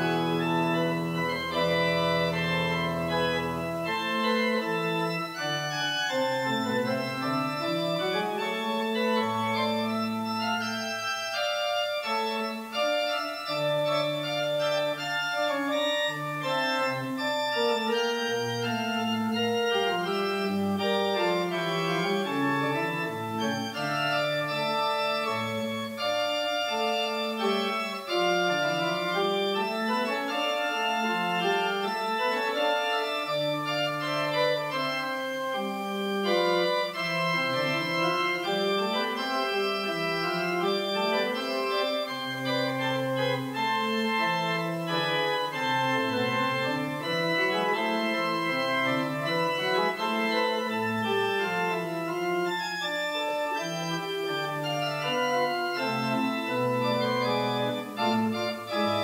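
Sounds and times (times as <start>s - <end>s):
pipe organ playing: 0.0s - 59.0s.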